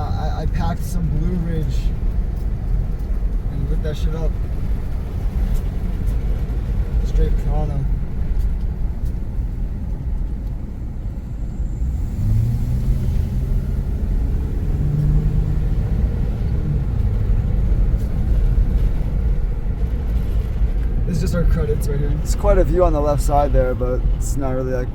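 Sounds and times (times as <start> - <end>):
car engine hum: 0.0 - 24.9
car road noise rumble: 0.0 - 24.9.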